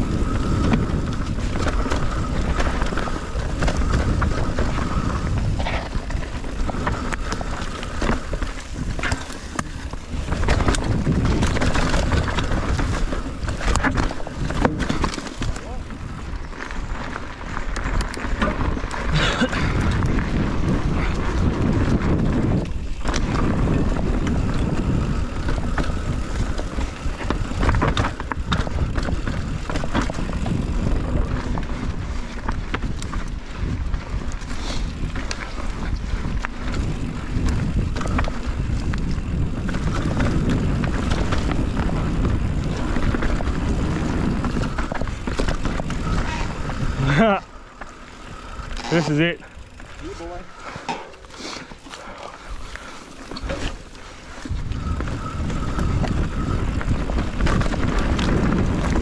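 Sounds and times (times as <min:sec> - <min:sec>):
wind on microphone: 0:00.0 - 0:51.2, 0:52.0 - 0:59.0
bike rattles and knocks: 0:00.0 - 0:59.0
bike tyres on rough ground: 0:00.0 - 0:59.0.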